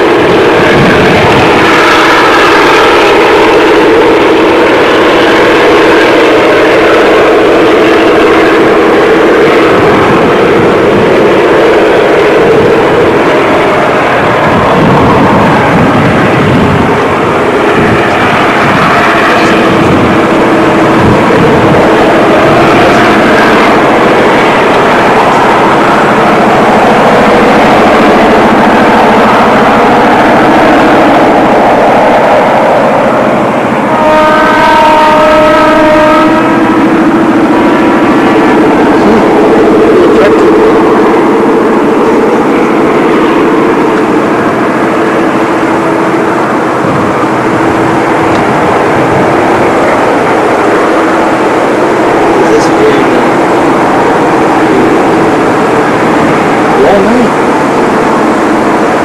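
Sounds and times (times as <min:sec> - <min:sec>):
engine drone: 0:00.0 - 0:59.0
freight train rumble and rattle: 0:00.0 - 0:59.0.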